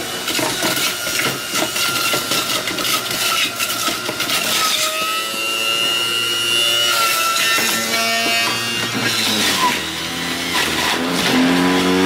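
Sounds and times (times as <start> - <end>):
juice extractor grinding apples: 0.0 - 12.0.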